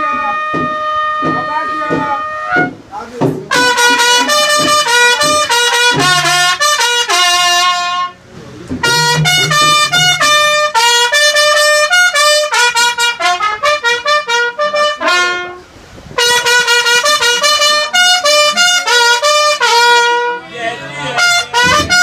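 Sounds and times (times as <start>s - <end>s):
trumpet playing short notes: 0.0s - 2.9s, 3.5s - 22.0s.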